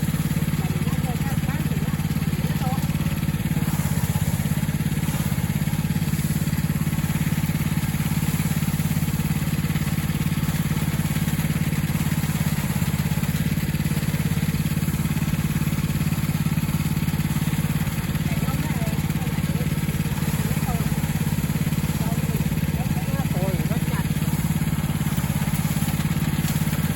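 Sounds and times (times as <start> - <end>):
small engine running: 0.0 - 26.9.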